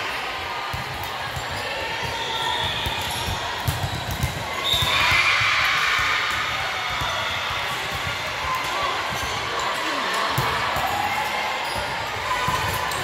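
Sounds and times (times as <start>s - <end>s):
voices in gym: 0.0s - 13.0s.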